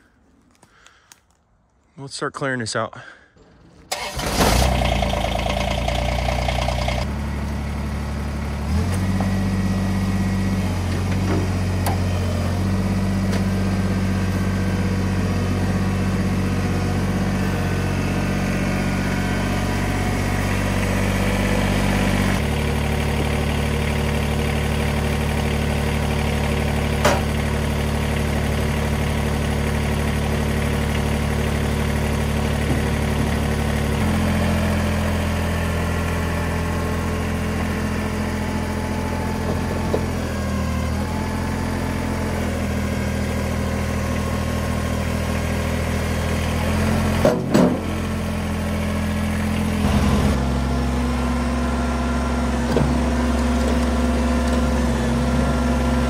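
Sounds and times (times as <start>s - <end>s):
tractor diesel engine running: 2.3s - 56.0s.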